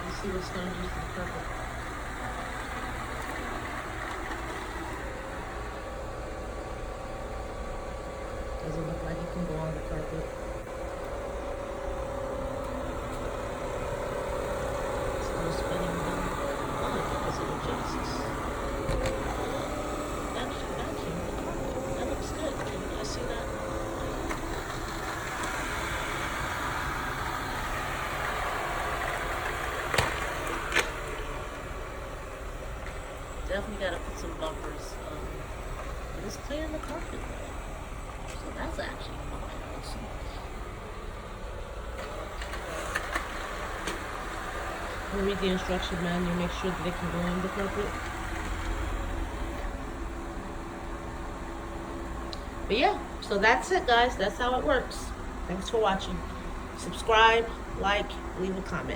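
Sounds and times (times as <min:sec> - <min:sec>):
robot vacuum whirring: 0:00.0 - 0:58.9.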